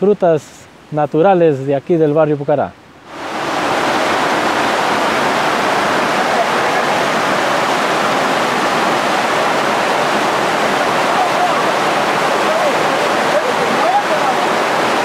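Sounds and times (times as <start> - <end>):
waterfall rushing: 2.9 - 15.0.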